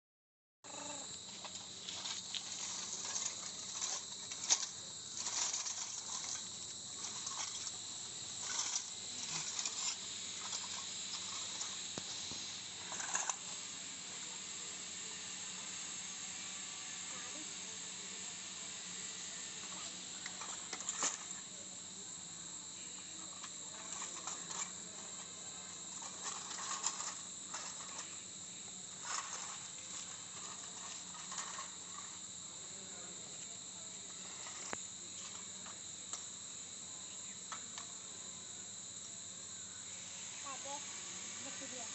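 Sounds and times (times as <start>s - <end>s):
insects chirring: 0.6s - 41.9s.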